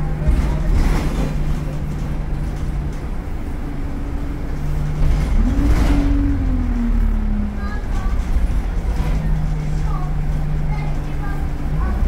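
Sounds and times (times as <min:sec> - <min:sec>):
bus engine and road rumble: 0:00.0 - 0:12.0
engine whine: 0:00.0 - 0:12.0.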